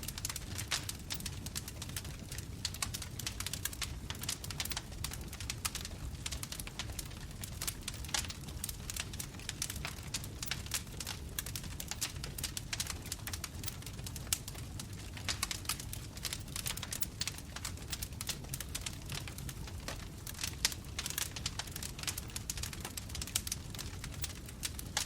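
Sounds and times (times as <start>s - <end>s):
bonfire crackling: 0.0s - 25.0s
low rumble of flame: 0.0s - 25.0s.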